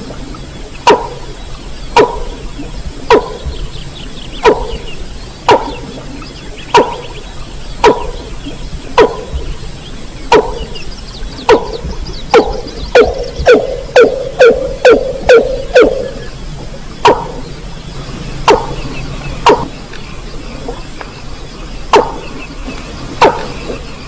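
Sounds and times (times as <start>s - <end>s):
bird call downward sweep: 0.0s - 24.0s.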